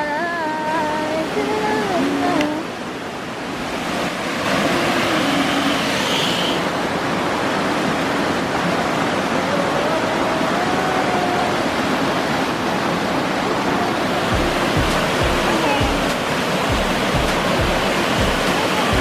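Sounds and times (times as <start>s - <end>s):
rocky stream and waterfall rushing: 0.0s - 19.0s.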